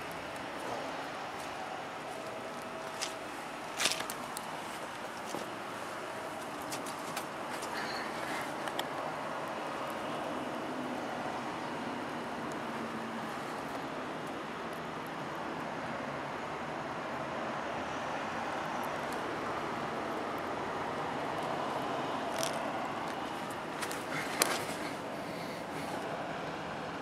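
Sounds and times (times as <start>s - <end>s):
traffic on wet road: 0.0s - 27.0s.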